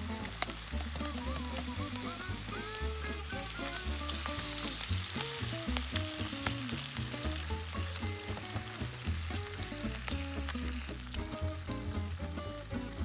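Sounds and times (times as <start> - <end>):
background music with bass: 0.0 - 13.0
food sizzling in a pan: 0.0 - 13.0.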